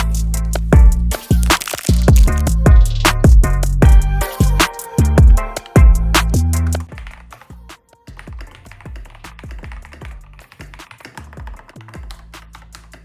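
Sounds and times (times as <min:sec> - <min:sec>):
quiet background music with bass: 0:00.0 - 0:13.0.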